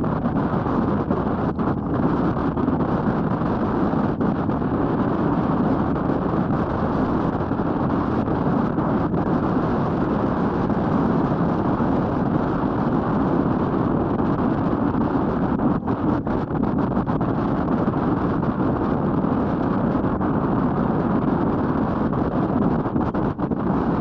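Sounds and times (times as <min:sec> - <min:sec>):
wind rush on microphone: 0:00.0 - 0:24.0.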